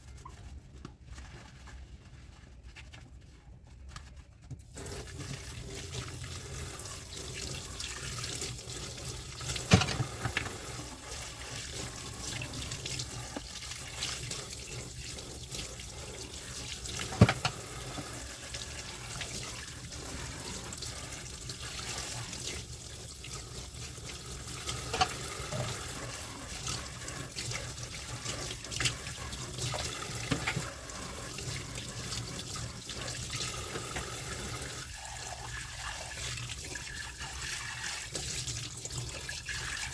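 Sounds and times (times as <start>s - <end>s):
tap water running into sink: 4.8s - 39.9s.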